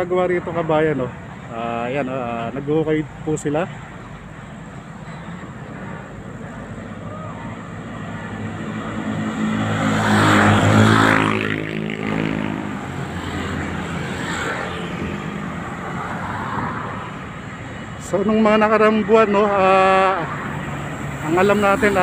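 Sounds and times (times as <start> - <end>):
background traffic: 0.0 - 22.0
car passing: 0.0 - 22.0
motorbikes passing: 0.0 - 22.0.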